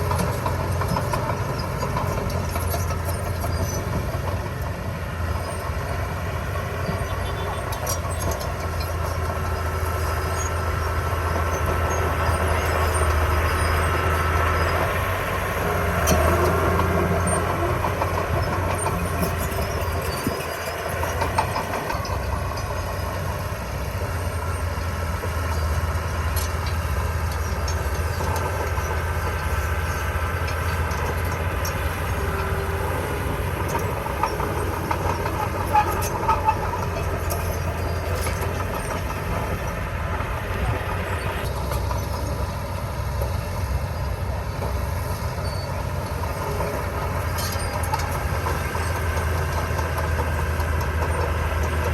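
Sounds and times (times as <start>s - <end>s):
diesel engine low drone: 0.0s - 51.9s.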